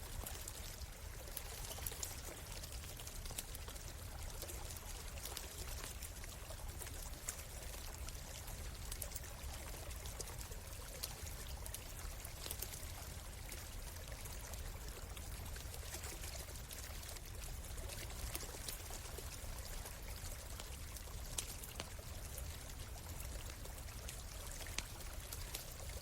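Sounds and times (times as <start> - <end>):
stream running: 0.0 - 26.0.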